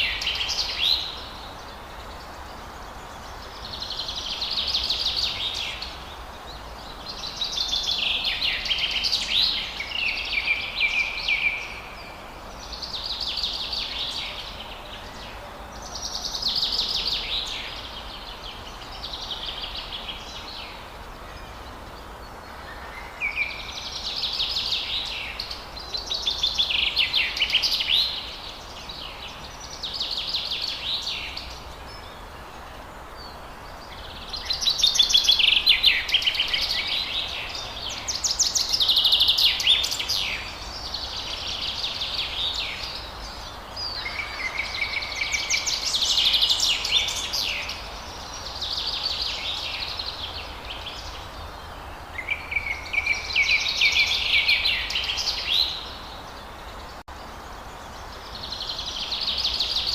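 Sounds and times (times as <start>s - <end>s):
songbirds trilling: 0.0s - 59.9s
steady background hiss: 0.0s - 59.9s.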